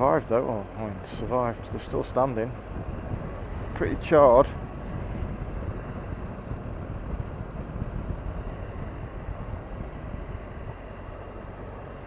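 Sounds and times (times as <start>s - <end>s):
motorcycle engine rumble: 0.0s - 12.0s
wind and road noise: 0.0s - 12.0s.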